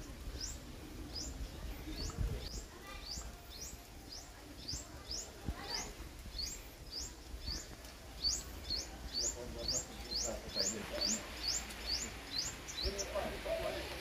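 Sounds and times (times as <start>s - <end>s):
bird chirping: 0.0s - 13.9s.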